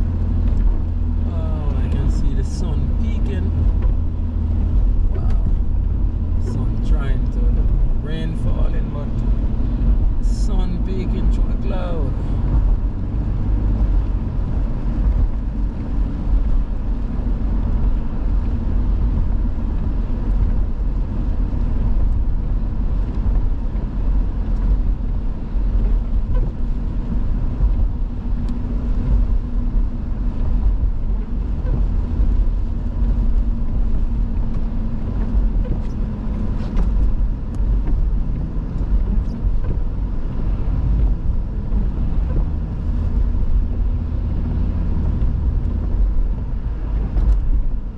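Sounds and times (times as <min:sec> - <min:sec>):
car engine and tyres rumbling: 0:00.0 - 0:47.9.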